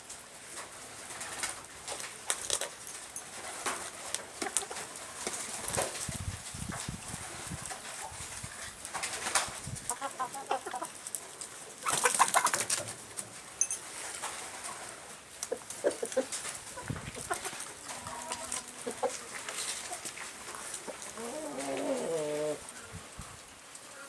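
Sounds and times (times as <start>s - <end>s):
chickens clucking: 3.5s - 13.4s, 14.0s - 23.5s.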